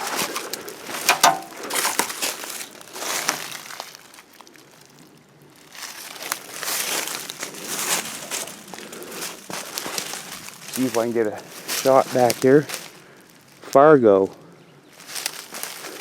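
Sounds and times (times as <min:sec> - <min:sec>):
footsteps crunching through undergrowth: 0:00.0 - 0:16.0.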